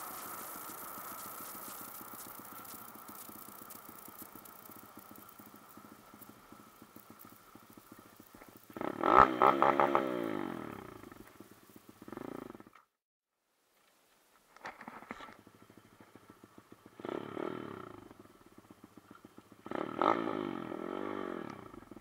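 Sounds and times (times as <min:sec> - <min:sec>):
motorcycle engine revving: 0:00.0 - 0:12.9, 0:15.3 - 0:22.0.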